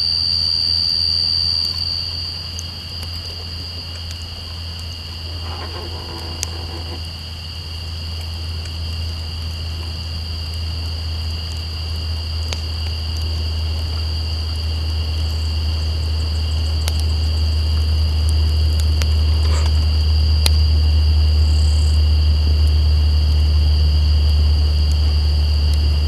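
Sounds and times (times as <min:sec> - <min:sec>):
insects trilling: 0:00.0 - 0:26.0
truck engine drone: 0:00.0 - 0:26.0
campfire crackling: 0:00.2 - 0:26.0.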